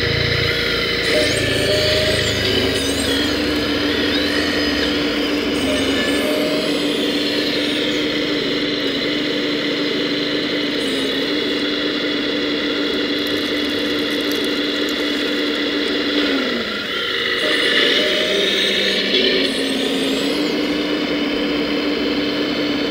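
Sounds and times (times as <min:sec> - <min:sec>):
hydraulic pump whining: 0:00.0 - 0:22.2.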